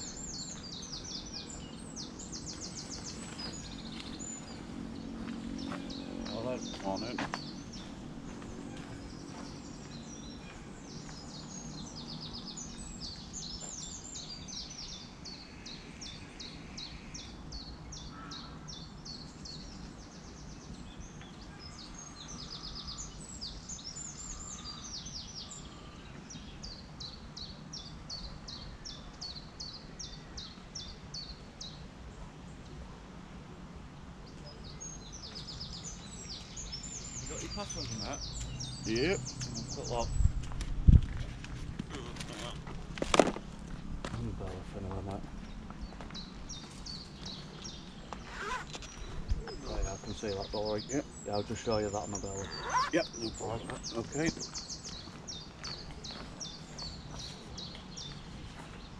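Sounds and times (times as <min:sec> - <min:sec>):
small birds chirping: 0:00.0 - 0:33.0, 0:33.6 - 0:58.9.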